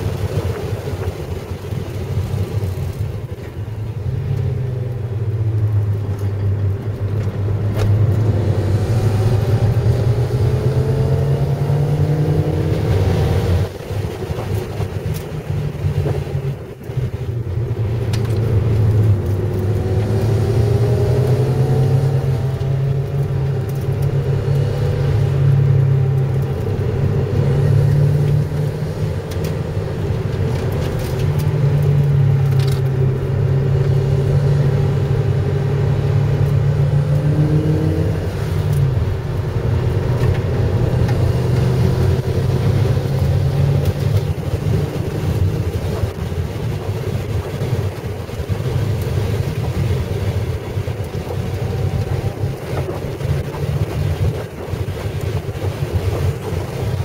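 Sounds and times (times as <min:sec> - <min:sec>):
car engine drone: 0:00.0 - 0:57.0
road noise inside car: 0:00.0 - 0:57.0.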